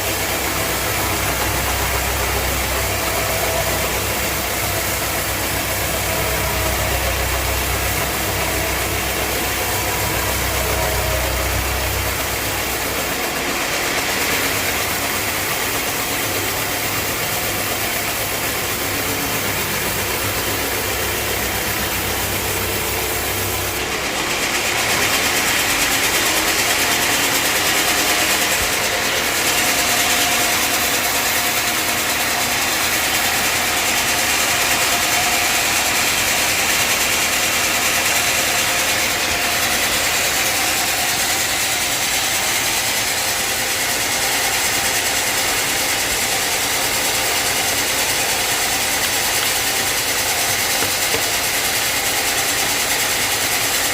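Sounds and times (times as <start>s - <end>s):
high-pitched saw noise: 0.0s - 53.9s
sawmill machine running: 0.0s - 53.9s.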